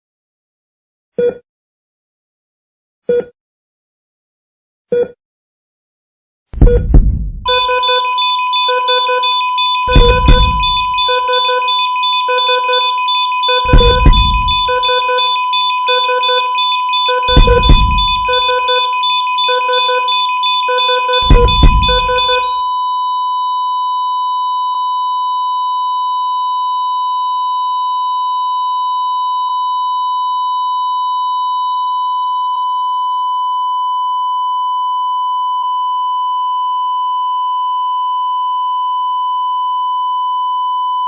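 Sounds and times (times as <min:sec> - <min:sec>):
heart monitor flatline beep: 0:06.6 - 0:41.0.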